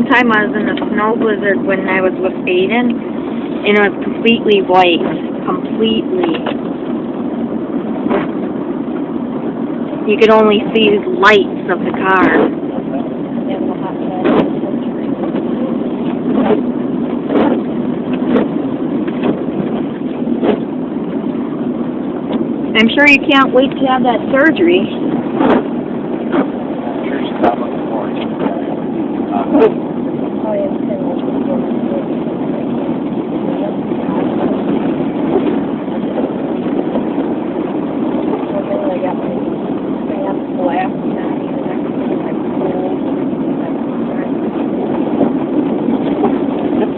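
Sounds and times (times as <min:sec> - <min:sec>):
road and engine noise in car: 0:00.0 - 0:46.9.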